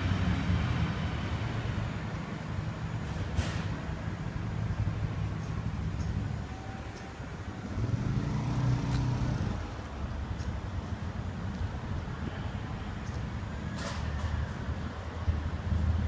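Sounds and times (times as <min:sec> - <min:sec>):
low traffic rumble: 0:00.0 - 0:16.0
vehicle engine rumbling: 0:00.0 - 0:16.0.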